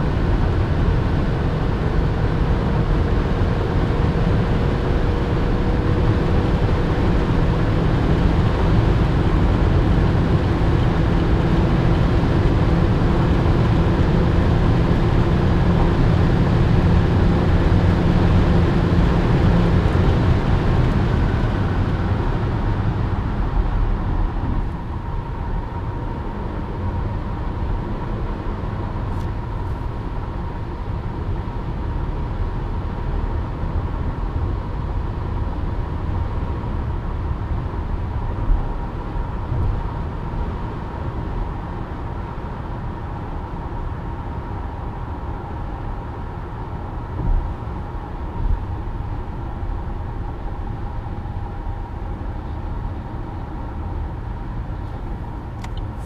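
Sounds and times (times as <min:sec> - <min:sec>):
car engine drone: 0:00.0 - 0:56.0
wind and road noise: 0:00.0 - 0:56.0.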